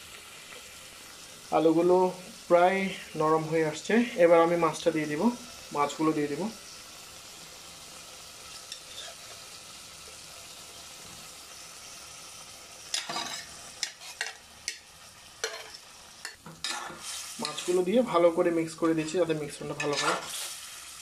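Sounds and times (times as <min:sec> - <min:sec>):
curry sizzling in metal pot: 0:00.0 - 0:21.0.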